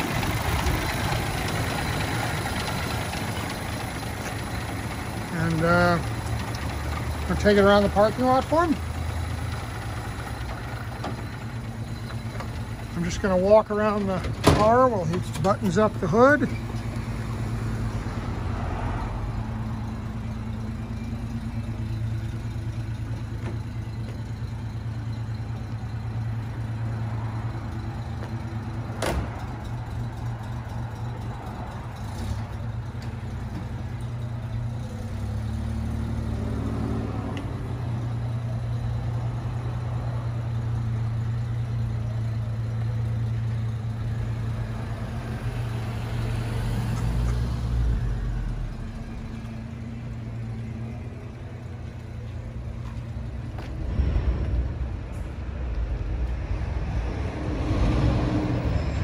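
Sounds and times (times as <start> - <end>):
car engine idling: 0.0 - 57.5
car pulling away: 0.0 - 59.0.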